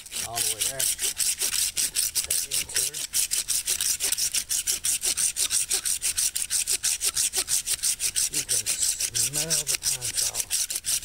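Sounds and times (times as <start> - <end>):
blade rasping on wood: 0.0 - 11.0.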